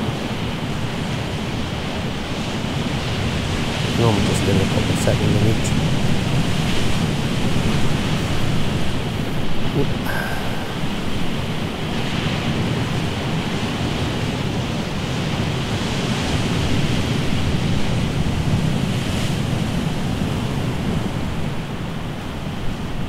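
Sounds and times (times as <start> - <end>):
sea surf rushing: 1.4 - 22.9.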